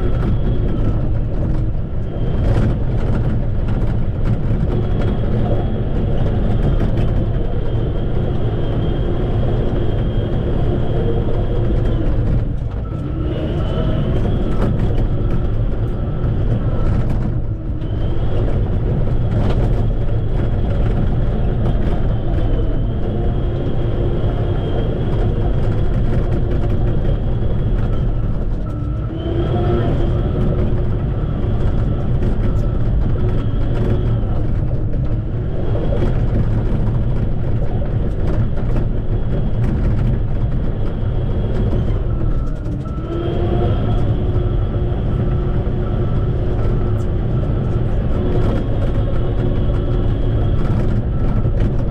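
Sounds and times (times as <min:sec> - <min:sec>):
bulldozer diesel engine: 0:00.0 - 0:51.9.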